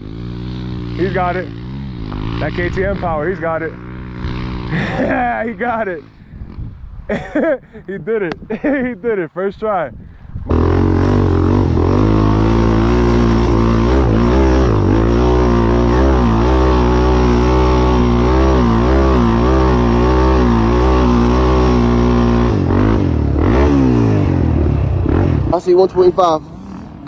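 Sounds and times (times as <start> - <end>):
off-road vehicle engine running: 0.0 - 7.6, 10.2 - 27.0.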